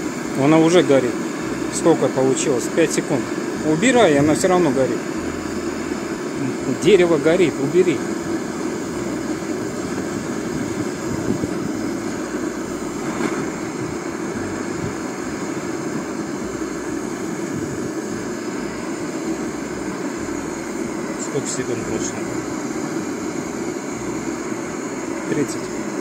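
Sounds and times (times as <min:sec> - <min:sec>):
gas torch flame roaring: 0:00.0 - 0:26.0.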